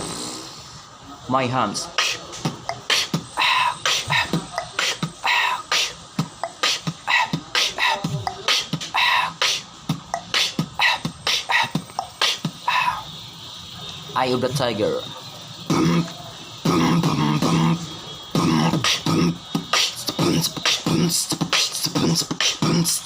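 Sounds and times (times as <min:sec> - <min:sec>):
person beatboxing: 0:01.7 - 0:13.2, 0:15.6 - 0:23.0
pitched vocal sweeps: 0:01.7 - 0:13.3, 0:14.2 - 0:23.0.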